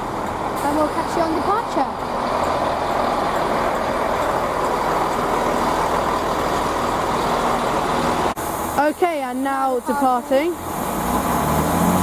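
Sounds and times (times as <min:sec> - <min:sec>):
train diesel engines running: 0:00.0 - 0:12.0.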